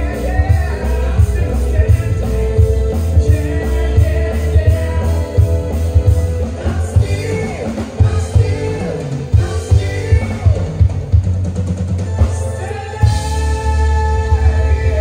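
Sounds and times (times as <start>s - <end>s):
person singing: 0.0s - 11.0s, 12.2s - 15.0s
band playing with bass and guitar: 0.0s - 15.0s.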